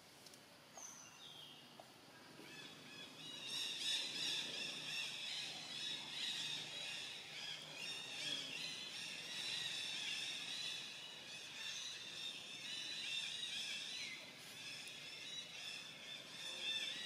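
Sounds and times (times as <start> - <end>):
birds chirping in chorus: 2.3 - 17.0.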